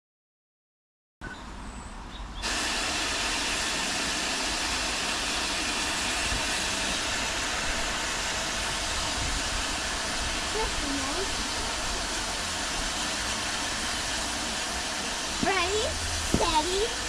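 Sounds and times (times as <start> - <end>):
steam locomotive hissing: 2.4 - 17.0.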